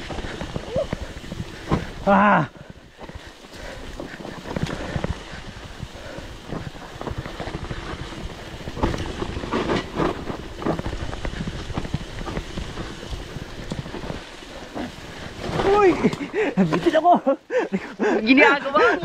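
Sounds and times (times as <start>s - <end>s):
low rumble of tyres: 0.0s - 17.0s
bike rattling over bumps: 0.0s - 19.0s.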